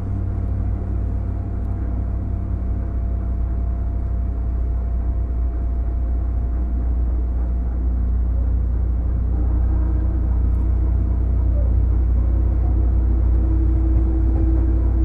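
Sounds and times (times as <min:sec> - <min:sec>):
faint steady hum: 0:00.0 - 0:15.0
train wheels rumbling on rail: 0:00.0 - 0:15.0.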